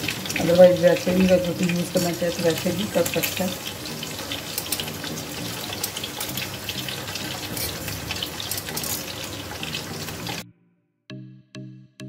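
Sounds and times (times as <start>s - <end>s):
chicken sizzling in hot oil: 0.0s - 10.4s.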